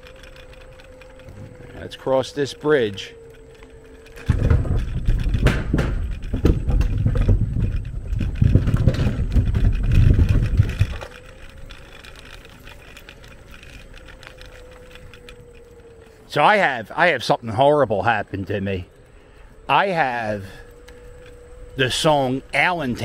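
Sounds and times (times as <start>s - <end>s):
faint electric motor whine: 0.0s - 23.0s
scooter wheels rattling over bridge: 0.0s - 23.0s.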